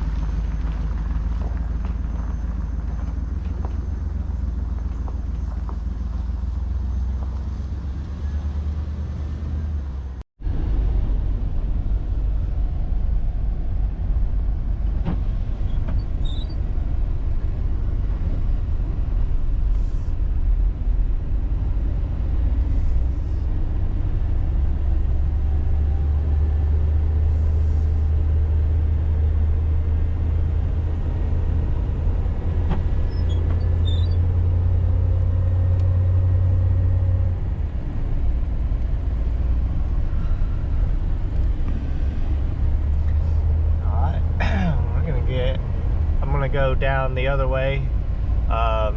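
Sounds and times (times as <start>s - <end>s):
van engine and road rumble: 0.0s - 48.9s.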